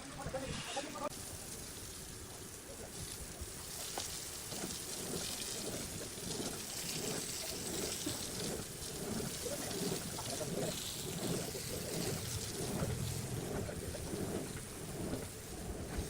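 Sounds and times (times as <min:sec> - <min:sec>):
water pattering on surfaces: 0:01.4 - 0:16.0.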